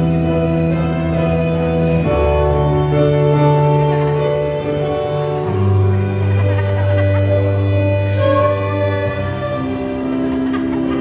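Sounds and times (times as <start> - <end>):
acoustic band playing: 0.0 - 11.0
violin sustained notes: 0.0 - 11.0.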